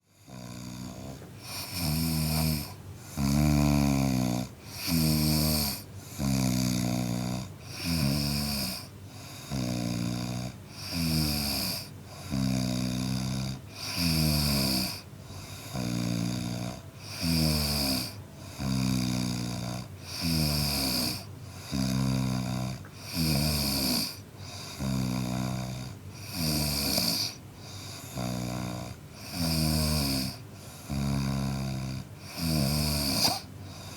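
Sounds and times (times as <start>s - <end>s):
man snoring: 0.1s - 33.9s.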